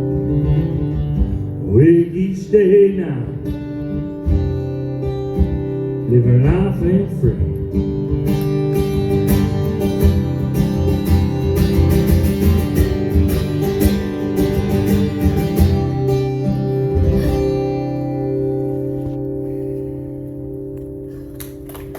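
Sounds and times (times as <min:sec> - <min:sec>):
acoustic guitar strumming: 0:00.0 - 0:21.9.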